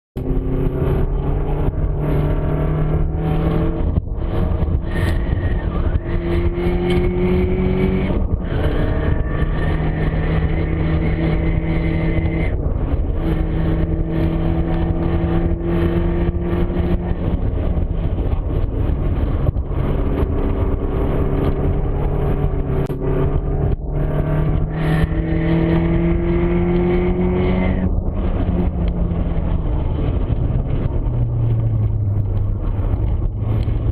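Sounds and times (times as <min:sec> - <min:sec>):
car engine revving hard: 0:00.2 - 0:17.8, 0:18.5 - 0:28.9
transmission whine: 0:00.2 - 0:33.9.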